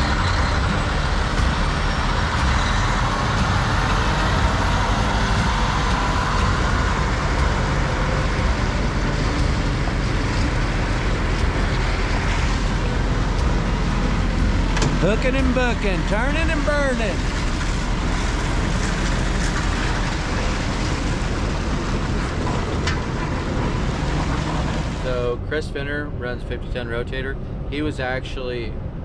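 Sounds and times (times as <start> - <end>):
heavy truck engine rumble: 0.0 - 25.4
road noise: 0.0 - 29.0.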